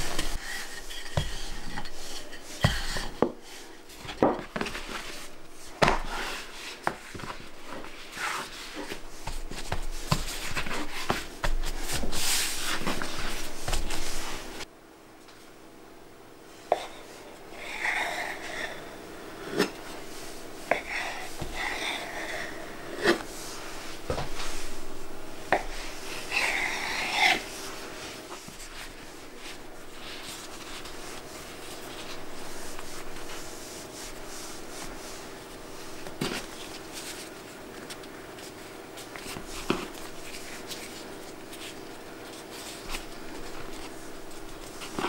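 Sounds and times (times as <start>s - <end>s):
soft rubbing of dough: 0.0s - 14.7s, 16.4s - 45.0s
steady low hum: 0.0s - 45.0s.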